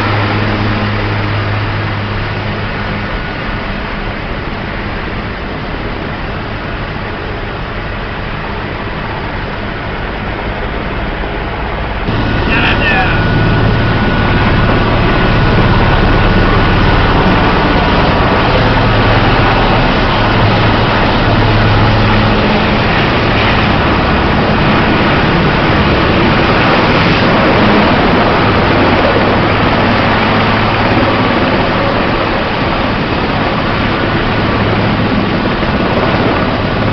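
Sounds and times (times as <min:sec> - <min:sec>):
helicopter rotor and turbine: 0:00.0 - 0:36.9.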